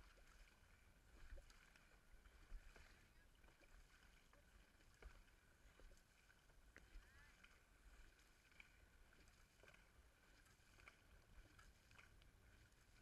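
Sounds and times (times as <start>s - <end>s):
paddles splashing through water: 0.0s - 13.0s.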